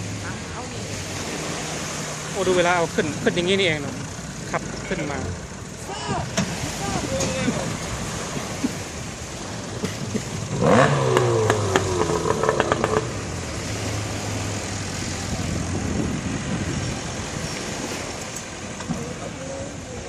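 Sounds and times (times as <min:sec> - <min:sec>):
speedboat engine revving: 0:00.0 - 0:20.0.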